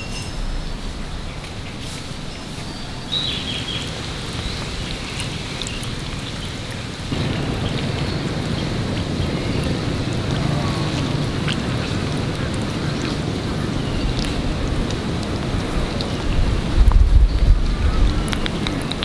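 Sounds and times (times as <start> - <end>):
outdoor rushing noise: 0.0 - 5.1, 6.0 - 19.0.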